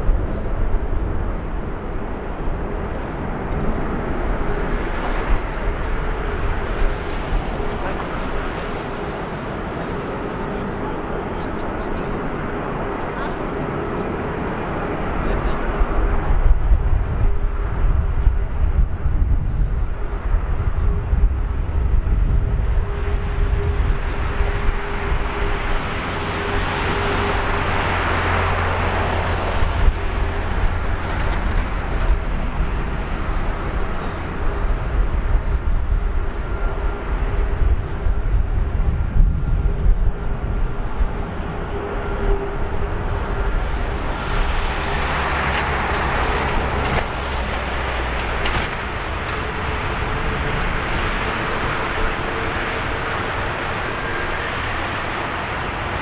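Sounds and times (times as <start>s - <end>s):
jet engines whining at taxi power: 0.0s - 56.0s.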